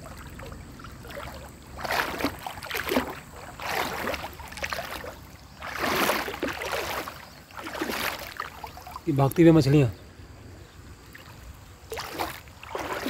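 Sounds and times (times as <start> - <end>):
feet wading through shallow water: 0.0 - 9.6, 10.8 - 13.0.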